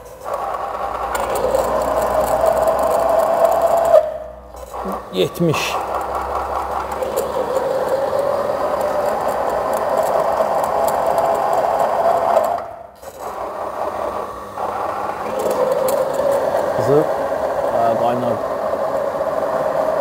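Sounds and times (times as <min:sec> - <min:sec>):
machine motor grinding whine: 0:00.0 - 0:20.0.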